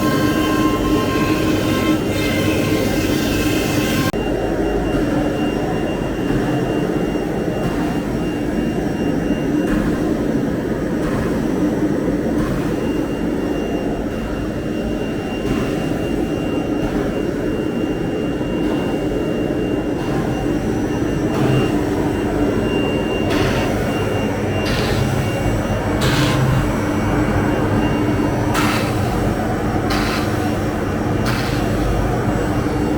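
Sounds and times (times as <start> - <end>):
cnc router machine drone: 0.0 - 11.0, 11.6 - 32.9.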